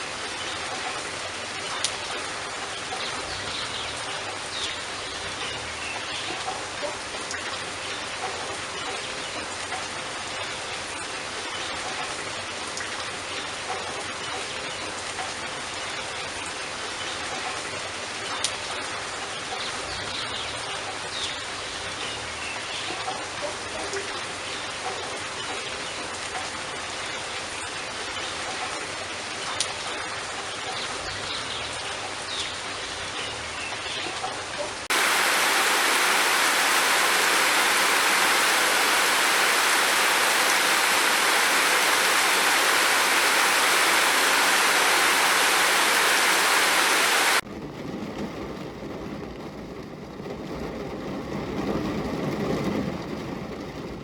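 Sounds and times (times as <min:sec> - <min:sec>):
heavy rain rushing: 0:00.0 - 0:33.3, 0:34.8 - 0:54.0
raindrops hitting close by: 0:00.0 - 0:54.0
steady rain falling: 0:00.0 - 0:54.0.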